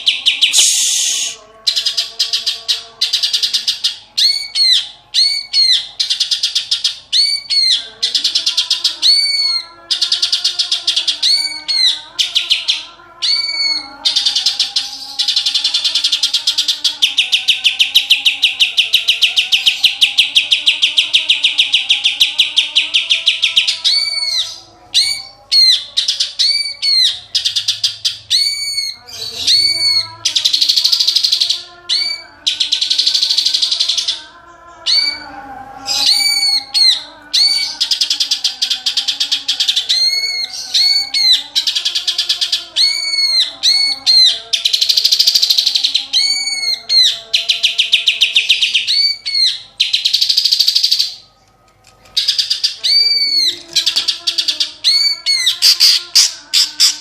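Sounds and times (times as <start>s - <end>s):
bird singing loudly with trills: 0.0s - 51.4s, 52.1s - 57.0s.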